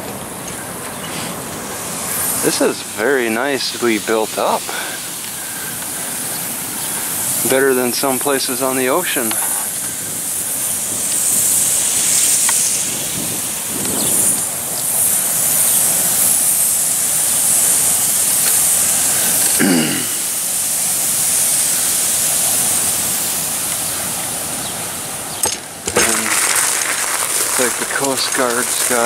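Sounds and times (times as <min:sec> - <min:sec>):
steady high hiss: 0:00.0 - 0:29.0.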